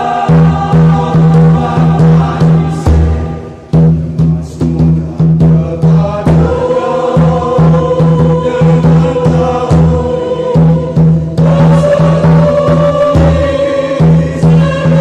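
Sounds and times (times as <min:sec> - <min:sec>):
choir singing a hymn: 0:00.0 - 0:04.8, 0:05.4 - 0:15.0.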